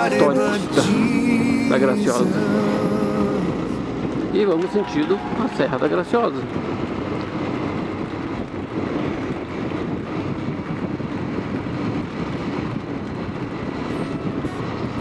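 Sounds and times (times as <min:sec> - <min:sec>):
motorcycle engine rumble: 0:00.0 - 0:15.0
wind on microphone: 0:00.0 - 0:15.0.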